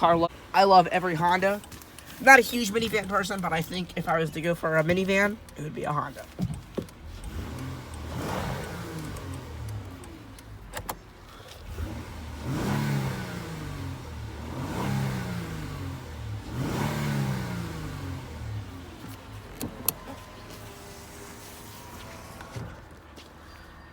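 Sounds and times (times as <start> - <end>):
car engine revving: 1.1 - 23.0.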